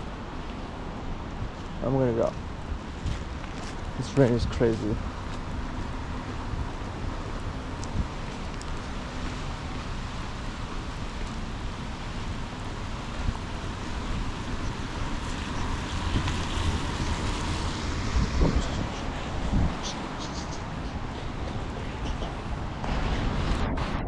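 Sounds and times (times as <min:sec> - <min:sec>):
wind and rain hissing: 0:00.0 - 0:24.0
wind buffeting microphone: 0:00.0 - 0:24.0.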